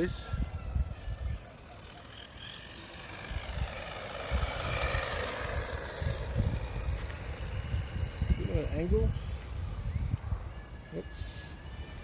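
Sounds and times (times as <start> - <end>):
toy truck electric motor whining: 0.0 - 12.0.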